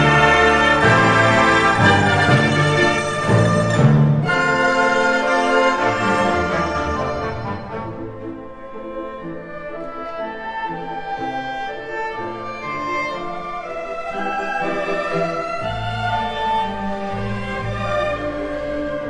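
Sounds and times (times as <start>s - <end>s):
orchestral strings playing slowly: 0.0s - 19.0s.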